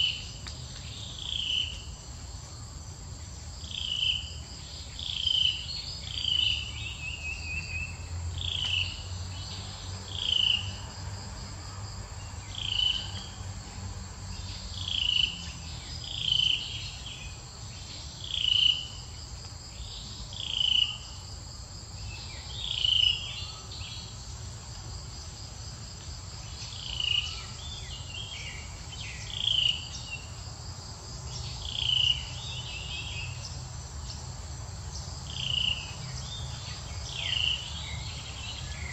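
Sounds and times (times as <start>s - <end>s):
high insect hiss: 0.0s - 38.9s
insect chirping: 0.0s - 38.9s.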